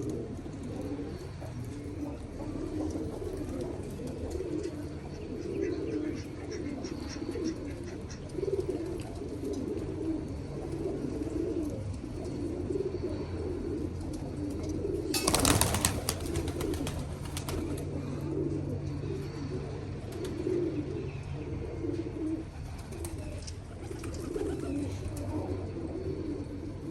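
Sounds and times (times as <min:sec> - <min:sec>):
pigeons cooing: 0:00.0 - 0:26.9.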